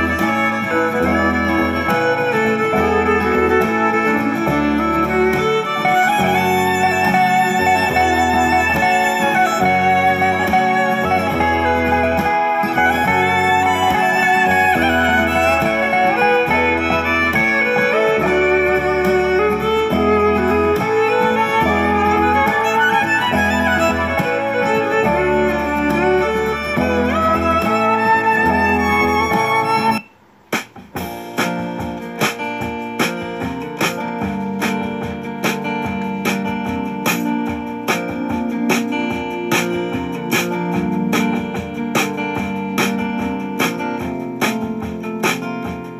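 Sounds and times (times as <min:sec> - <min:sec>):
instrumental background music: 0:00.0 - 0:45.9
quick plucked notes: 0:00.0 - 0:45.9.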